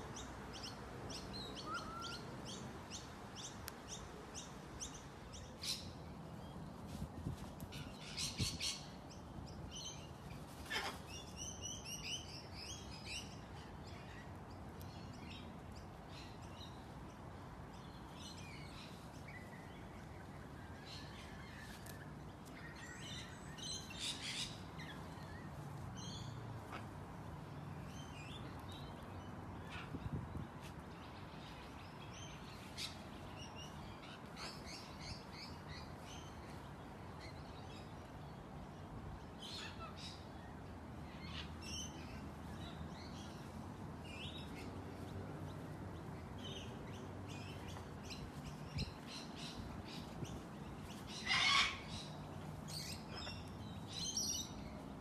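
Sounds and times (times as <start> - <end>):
birds chirping: 7.6 - 55.0.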